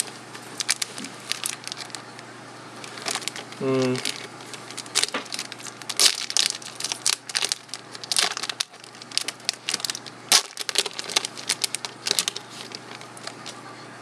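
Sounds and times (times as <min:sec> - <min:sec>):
wrapper crinkling and tearing: 0:00.0 - 0:02.2, 0:02.8 - 0:13.6.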